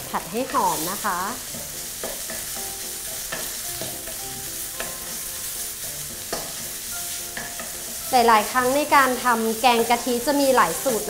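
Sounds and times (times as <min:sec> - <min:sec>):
curry paste sizzling in oil: 0:00.0 - 0:11.0.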